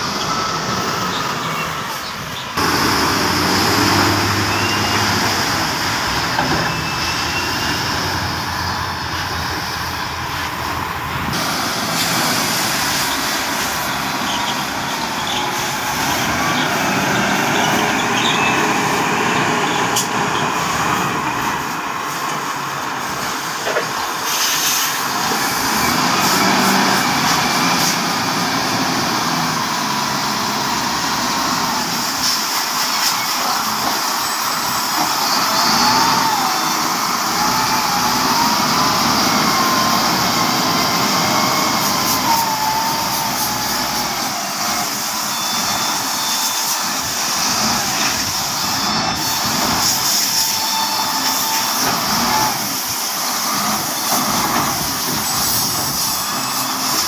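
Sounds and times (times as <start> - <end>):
wheel loader diesel engine: 0.0 - 57.0.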